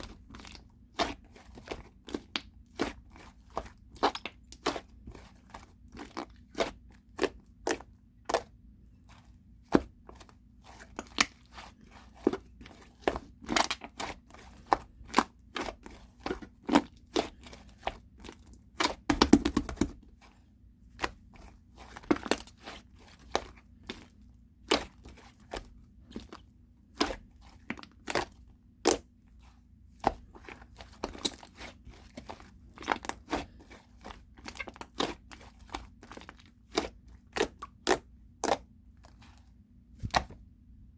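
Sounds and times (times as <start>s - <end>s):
clay slime clicking and crunching: 0.0s - 40.5s.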